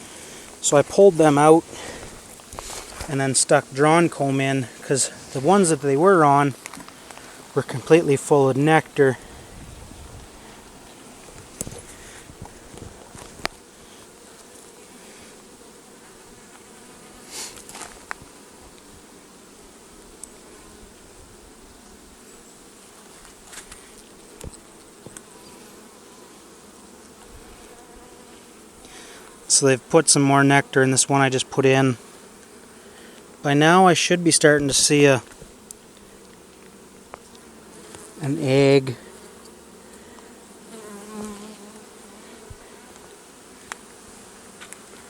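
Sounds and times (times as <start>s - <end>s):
honeybees buzzing: 0.0s - 45.0s.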